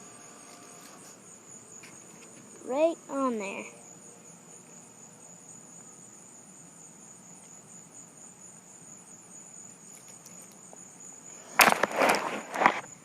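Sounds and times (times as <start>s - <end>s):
low background hiss: 0.0s - 11.5s
crickets chirping: 0.0s - 13.0s.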